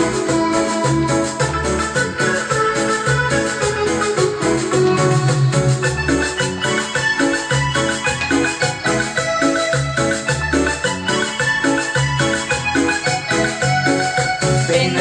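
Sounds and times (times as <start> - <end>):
bass and percussion beat: 0.0 - 15.0
electronic keyboard melody: 0.0 - 15.0.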